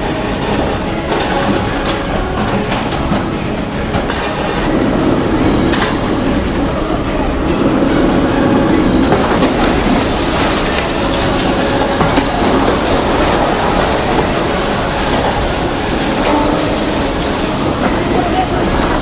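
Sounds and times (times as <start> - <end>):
excavator diesel engine running: 0.0 - 19.0
falling rubble and sheet metal: 0.0 - 19.0
steady clatter: 0.0 - 19.0.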